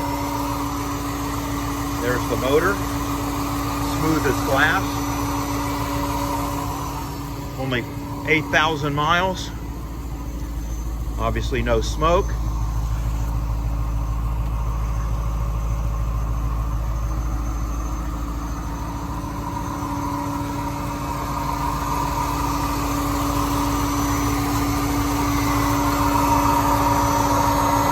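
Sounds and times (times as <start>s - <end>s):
air injection pump whine: 0.0s - 27.9s
car engine idling: 0.0s - 27.9s.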